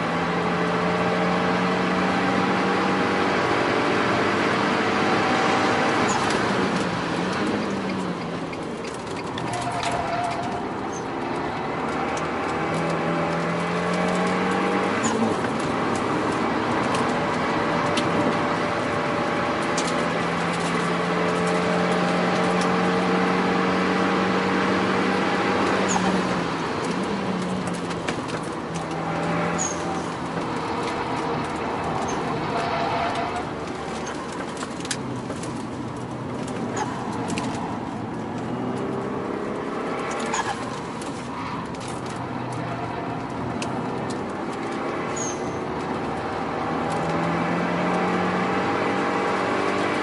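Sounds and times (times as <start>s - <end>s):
car engine running hard: 0.0s - 50.0s.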